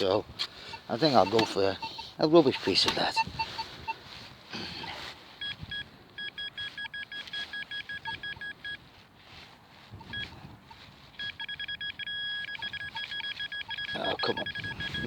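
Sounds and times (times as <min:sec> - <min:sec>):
metal detector probe beeping: 0:00.0 - 0:04.2, 0:04.8 - 0:08.9, 0:09.9 - 0:15.0.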